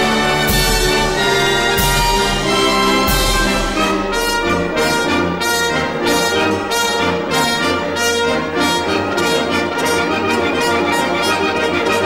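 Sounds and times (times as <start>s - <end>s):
brass-led orchestral music: 0.0s - 12.0s.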